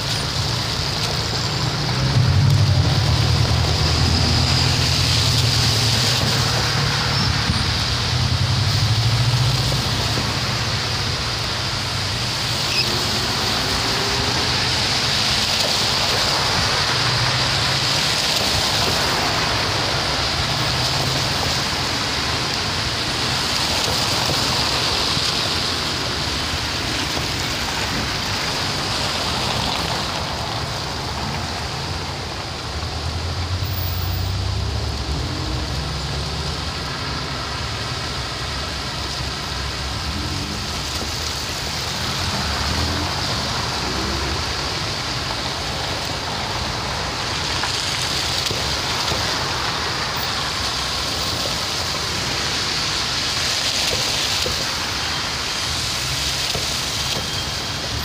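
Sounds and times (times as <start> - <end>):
car engines running: 0.0 - 58.0
tyres hissing on wet road: 0.0 - 58.0.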